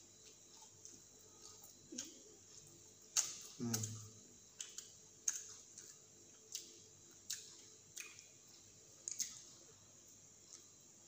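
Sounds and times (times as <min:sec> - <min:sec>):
chewing fried snack: 0:00.0 - 0:09.8.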